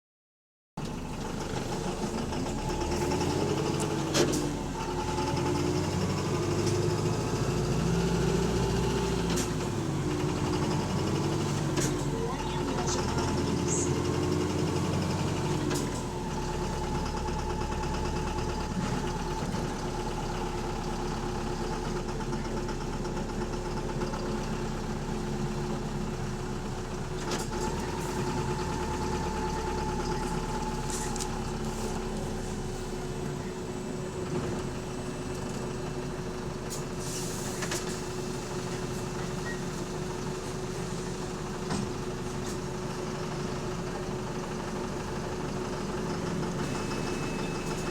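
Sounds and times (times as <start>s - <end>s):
bus engine knocking: 0.8s - 47.9s.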